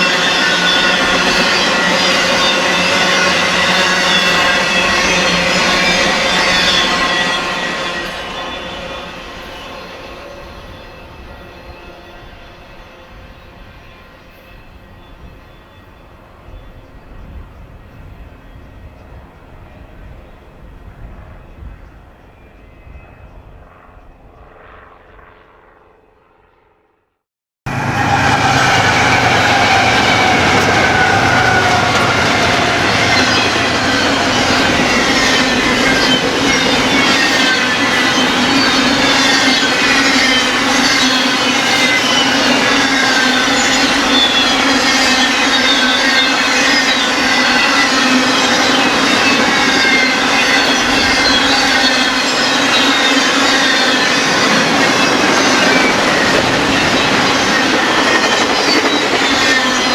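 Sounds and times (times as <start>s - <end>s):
train wheels squealing on rails: 0.0s - 25.8s, 27.7s - 59.9s.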